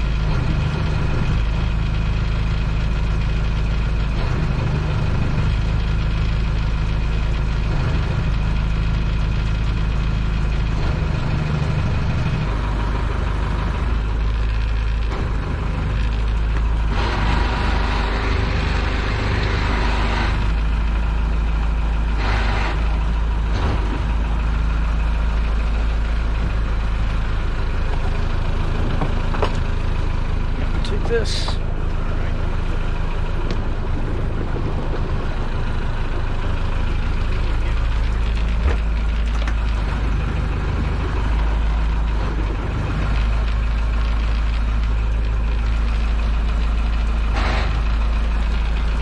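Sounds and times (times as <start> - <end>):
boat engine idling: 0.0 - 49.0.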